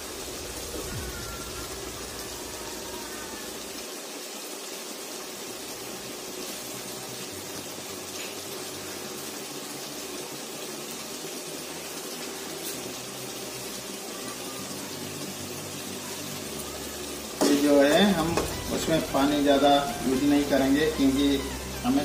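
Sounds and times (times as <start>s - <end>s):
curry sizzling and bubbling: 0.0s - 22.0s.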